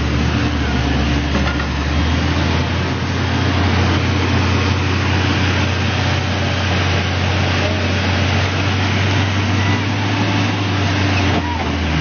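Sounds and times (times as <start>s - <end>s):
heavy machine engine droning: 0.0s - 12.0s.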